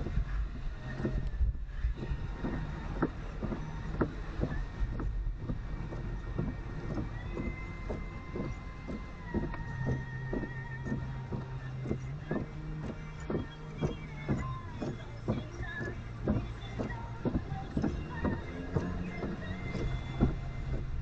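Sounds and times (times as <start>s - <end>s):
engine and road rumble: 0.0s - 21.0s
rain tapping on car body: 0.0s - 21.0s.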